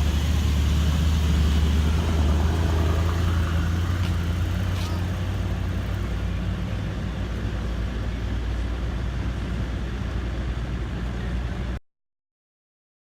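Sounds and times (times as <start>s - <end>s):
car engine deep rumble: 0.0s - 11.8s.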